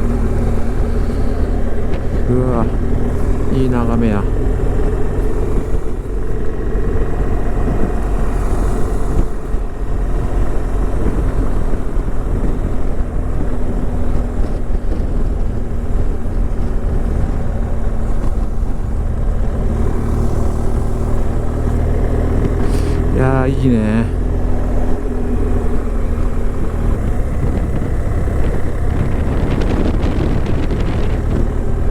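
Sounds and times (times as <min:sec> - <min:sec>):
car engine drone: 0:00.0 - 0:31.9
road and tyre noise: 0:00.0 - 0:31.9.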